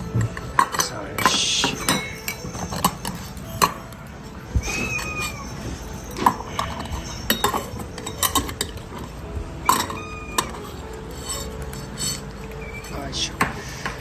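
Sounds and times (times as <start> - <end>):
bowls and dishes clinking: 0.0 - 14.0.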